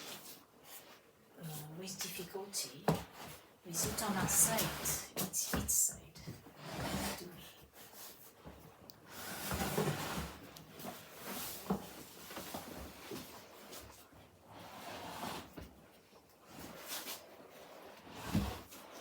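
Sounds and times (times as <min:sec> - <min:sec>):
armchair rustling and scraping: 0:00.0 - 0:19.0.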